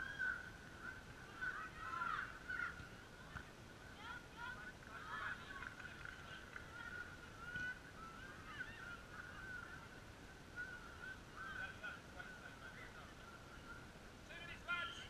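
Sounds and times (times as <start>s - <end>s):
distant children shouting: 0.0s - 12.5s.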